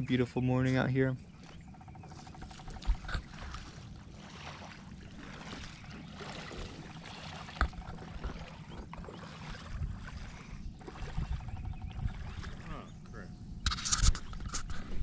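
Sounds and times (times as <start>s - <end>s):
water splashing against a kayak: 0.7s - 13.0s, 13.6s - 15.0s.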